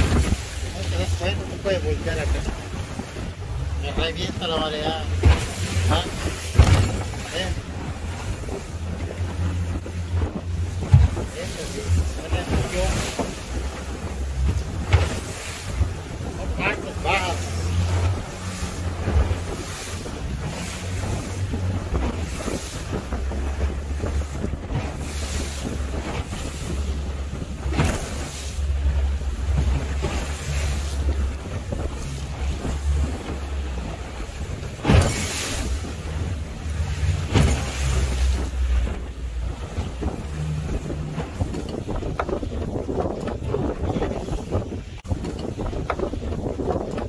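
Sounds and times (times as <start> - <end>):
hull slapping through waves: 0.0 - 47.0
water rushing past boat: 0.0 - 47.0
wind buffeting microphone: 0.0 - 47.0.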